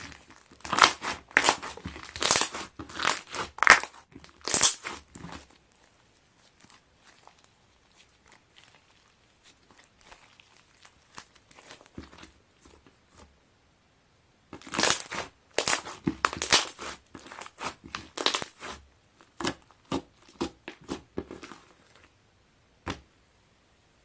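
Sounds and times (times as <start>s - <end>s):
slime crackling and popping: 0.0s - 12.4s, 14.6s - 22.1s.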